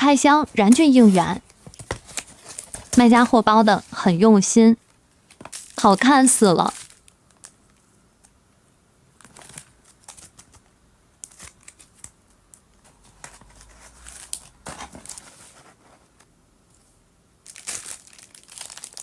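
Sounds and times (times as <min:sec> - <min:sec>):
packaging crinkling and rustling: 0:00.0 - 0:08.4, 0:09.1 - 0:16.3, 0:17.4 - 0:19.0.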